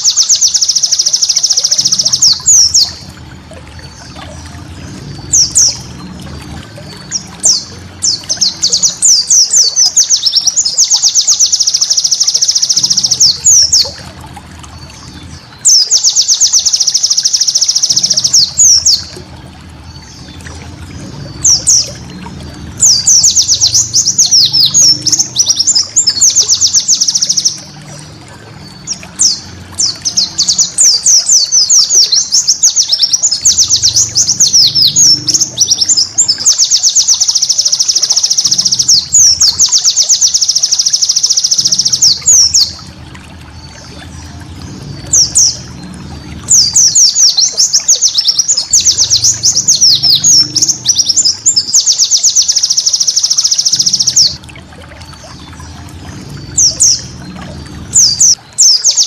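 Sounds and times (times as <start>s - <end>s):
bird twittering: 0.0s - 3.2s, 3.8s - 14.0s, 15.1s - 19.2s, 19.9s - 27.8s, 28.6s - 42.8s, 45.0s - 54.4s, 56.4s - 59.0s.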